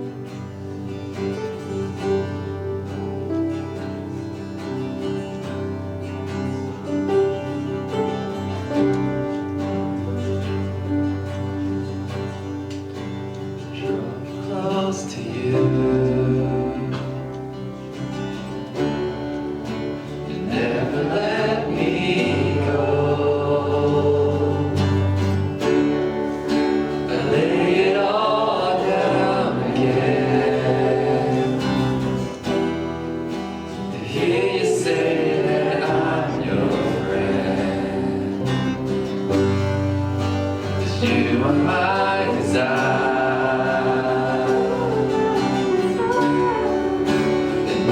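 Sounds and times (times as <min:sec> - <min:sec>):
acoustic guitar: 0:00.0 - 0:47.9
held chords: 0:00.0 - 0:47.9
people singing: 0:06.1 - 0:47.9.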